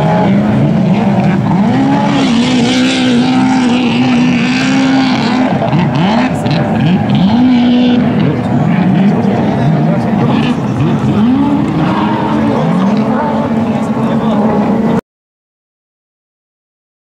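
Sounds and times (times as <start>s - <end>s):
jet ski engines whining: 0.0s - 15.0s.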